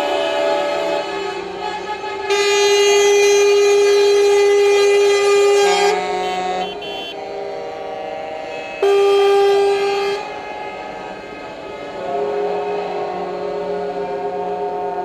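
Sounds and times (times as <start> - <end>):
truck air horns: 0.0 - 15.0.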